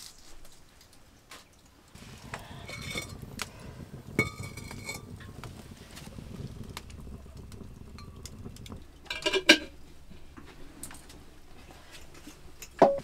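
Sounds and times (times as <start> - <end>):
firewood crackling in a stove: 0.0 - 13.0.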